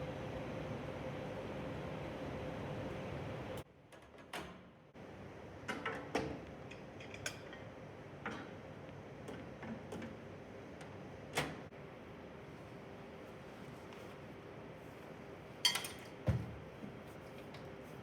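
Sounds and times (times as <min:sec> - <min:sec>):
room hum: 0:00.0 - 0:18.0.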